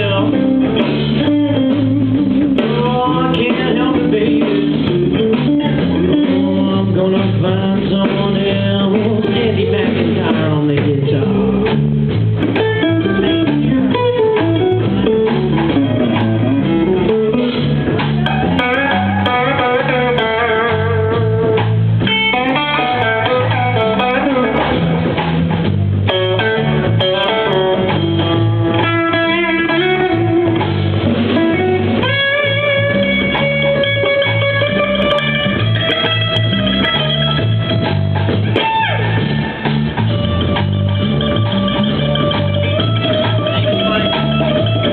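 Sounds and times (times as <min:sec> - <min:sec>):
lead guitar with bent notes: 0:00.0 - 0:44.9
live blues band playing: 0:00.0 - 0:44.9.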